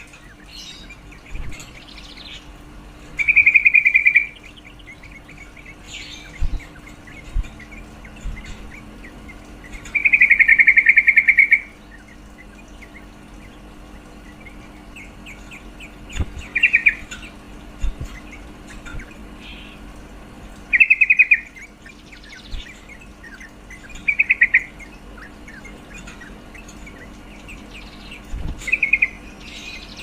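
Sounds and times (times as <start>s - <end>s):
bird chattering trills: 0.0s - 30.0s
soft bird chirps: 0.0s - 30.0s.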